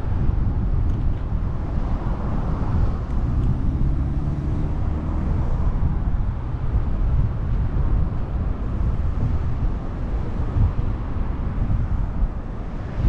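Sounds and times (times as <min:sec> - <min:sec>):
low hum of road noise: 0:00.0 - 0:13.0
wind rumble on microphone: 0:00.0 - 0:13.0.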